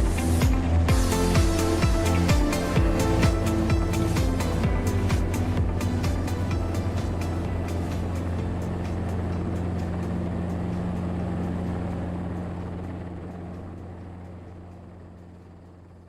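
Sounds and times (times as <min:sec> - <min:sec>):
helicopter engine and rotor hum: 0:00.0 - 0:16.0.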